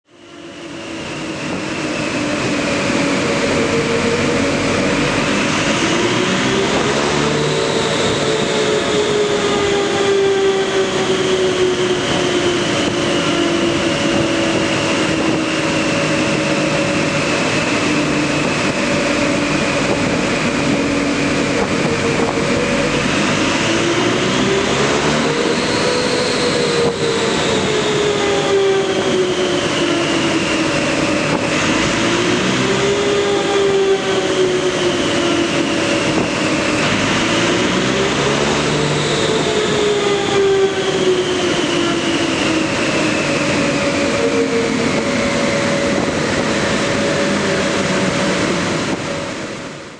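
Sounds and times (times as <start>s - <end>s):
car engine running under load: 0.1s - 49.9s.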